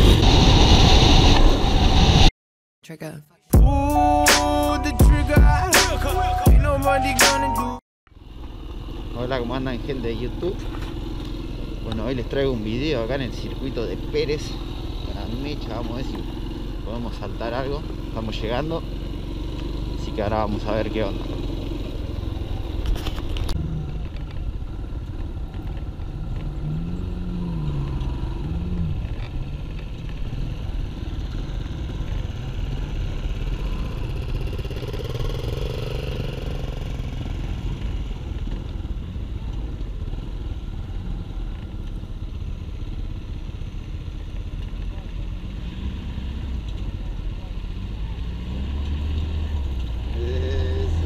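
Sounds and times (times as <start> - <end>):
pickup truck engine: 3.7 - 51.0
dirt motorcycle engine revving: 4.3 - 43.7, 44.6 - 51.0.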